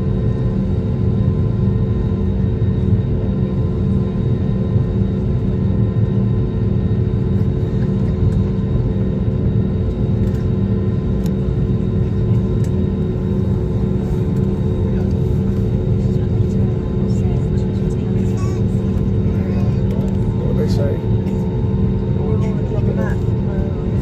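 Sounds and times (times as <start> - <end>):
airliner cabin engine roar: 0.0 - 24.0.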